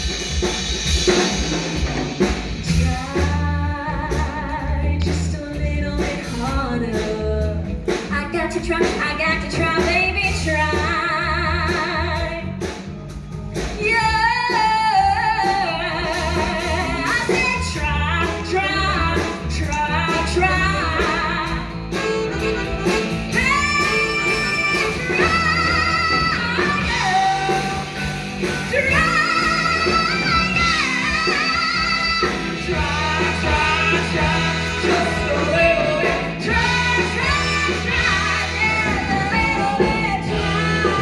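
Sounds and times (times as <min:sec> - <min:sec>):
rock band playing: 0:00.0 - 0:41.0
woman singing blues-rock: 0:02.3 - 0:12.8, 0:13.6 - 0:41.0.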